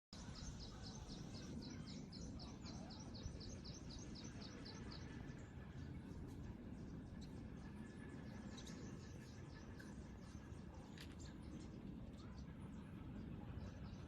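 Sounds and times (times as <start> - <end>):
bird chirping: 0.2 - 12.5
low background hum: 0.2 - 14.0.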